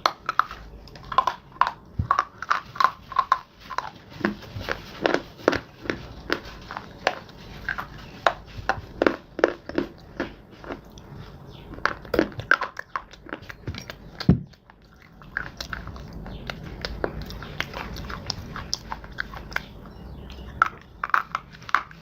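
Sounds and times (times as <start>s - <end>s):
chewing hard clay crunches: 0.0s - 22.0s.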